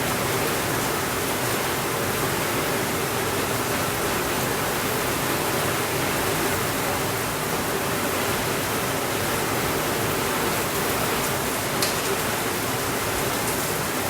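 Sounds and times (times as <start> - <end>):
steady rainfall: 0.0 - 14.0.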